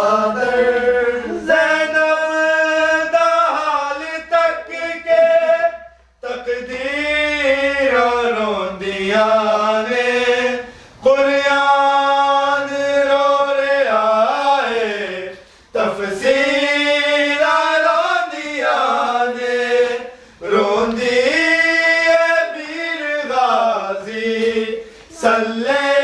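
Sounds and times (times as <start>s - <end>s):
man singing a lament: 0.0s - 26.0s.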